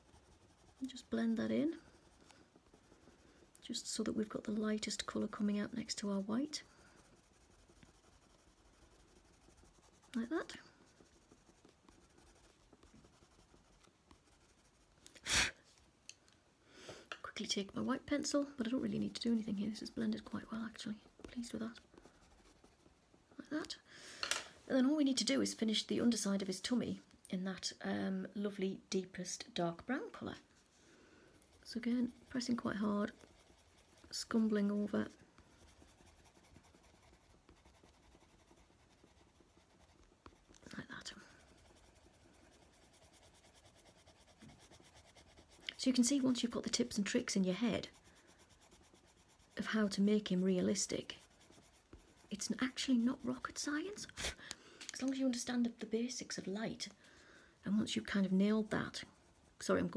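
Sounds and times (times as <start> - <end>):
coloured pencil scratching paper: 0.0 - 15.0, 17.5 - 23.8, 31.5 - 54.4, 55.2 - 59.9.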